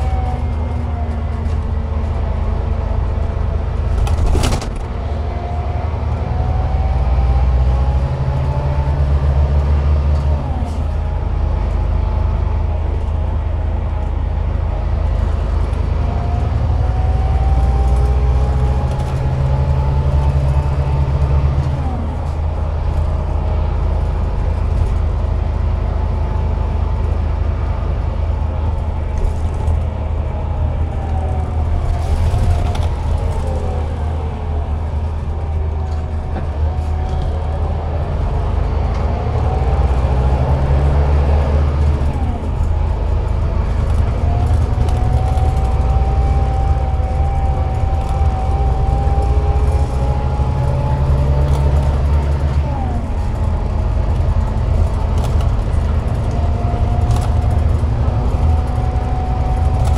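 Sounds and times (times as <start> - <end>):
bus diesel engine drone: 0.0 - 59.9
drivetrain whine: 0.0 - 59.9.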